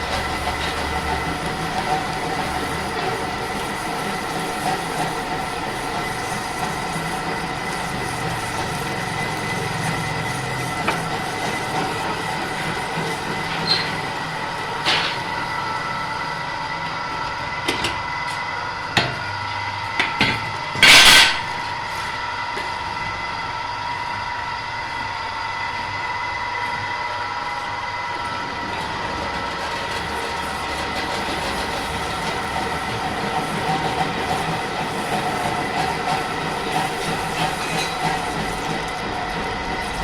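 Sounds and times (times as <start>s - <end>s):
machine whining: 0.0s - 40.0s.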